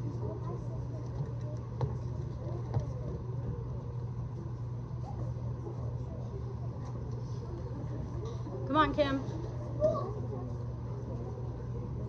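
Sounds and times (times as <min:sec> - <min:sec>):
faint crowd chatter: 0:00.0 - 0:12.0
low indoor hum: 0:00.0 - 0:12.0.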